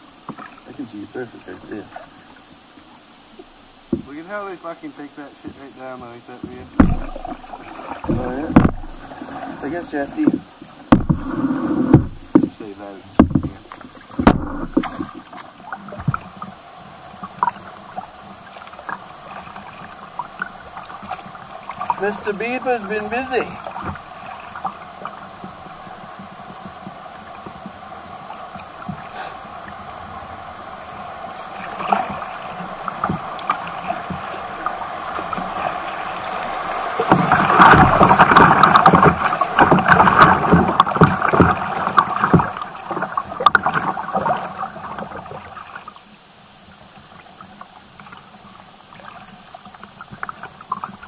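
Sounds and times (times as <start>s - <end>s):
stream rapids rushing: 0.0s - 51.0s
water lapping: 0.0s - 51.0s.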